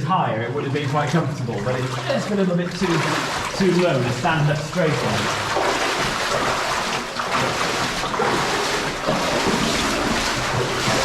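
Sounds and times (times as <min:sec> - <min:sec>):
rushing sloshing water: 0:00.0 - 0:11.0
feet wading through water: 0:00.5 - 0:11.0.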